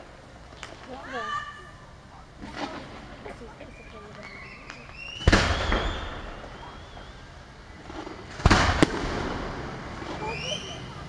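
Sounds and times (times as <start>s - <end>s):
firework shells bursting: 2.0s - 10.9s.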